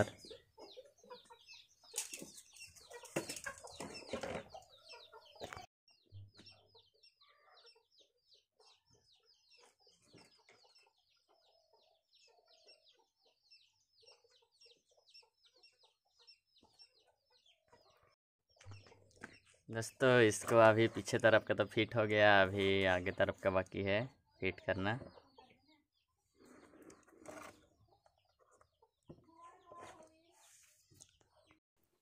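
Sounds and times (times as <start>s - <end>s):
chickens clucking: 0.0s - 31.6s.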